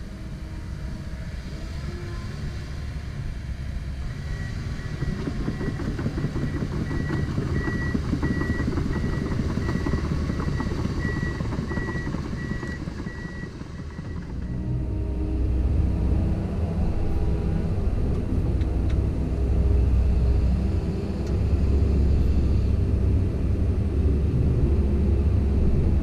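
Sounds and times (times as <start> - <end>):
excavator engine rumbling: 0.0 - 26.0.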